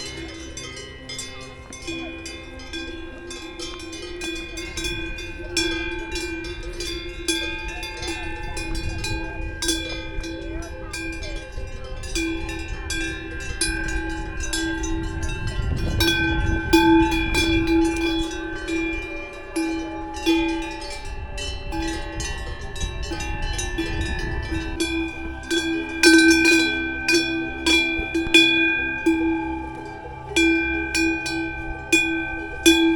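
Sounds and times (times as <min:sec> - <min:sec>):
cowbells clanking: 0:00.0 - 0:32.9.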